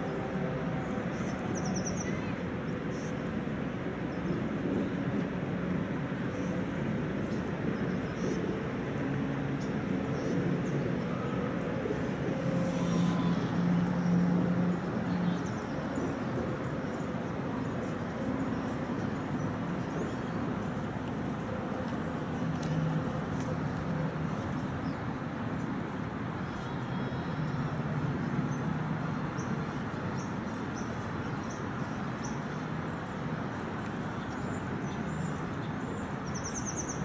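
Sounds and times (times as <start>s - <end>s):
distant road traffic hum: 0.0s - 37.0s.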